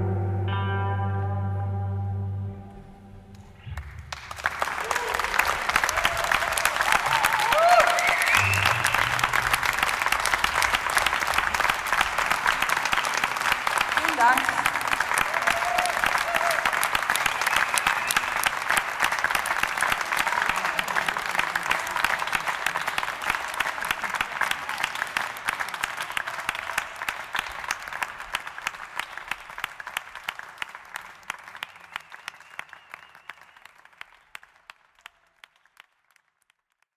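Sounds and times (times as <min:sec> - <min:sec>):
audience applause: 0:03.7 - 0:36.8.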